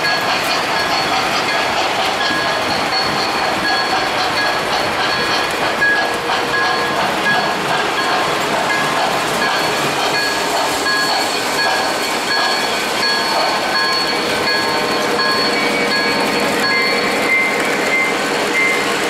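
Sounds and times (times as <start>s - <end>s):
model train wheels rumbling on track: 0.0s - 19.0s
repeated electronic locomotive tones: 0.0s - 19.0s.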